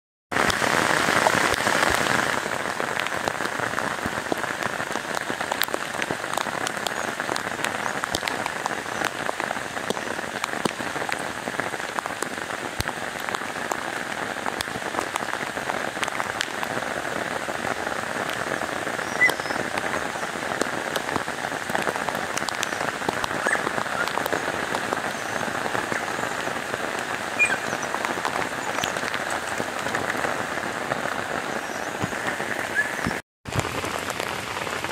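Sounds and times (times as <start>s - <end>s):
heavy rain on leaves: 0.3s - 34.9s.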